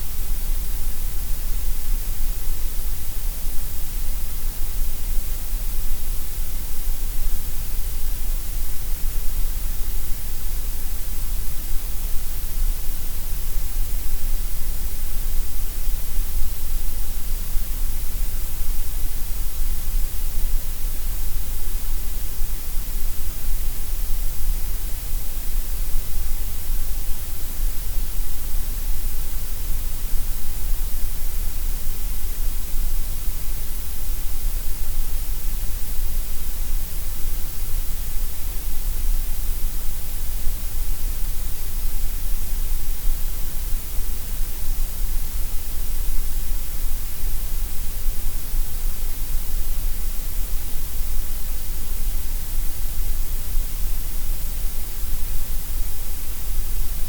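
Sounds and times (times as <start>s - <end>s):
gray noise hiss: 0.0s - 57.0s.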